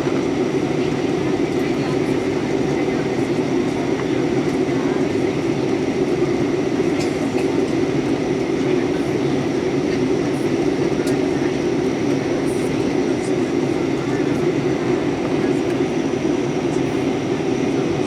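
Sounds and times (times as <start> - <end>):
airliner cabin airflow and engine drone: 0.0 - 18.0.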